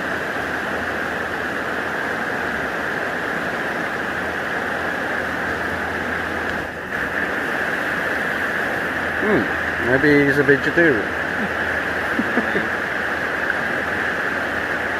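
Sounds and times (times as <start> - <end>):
flowing river water: 0.0 - 14.9.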